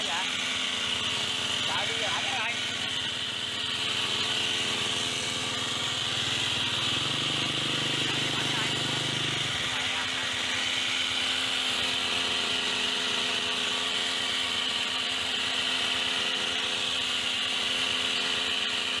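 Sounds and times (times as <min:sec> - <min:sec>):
hedge trimmer buzzing: 0:00.0 - 0:19.0.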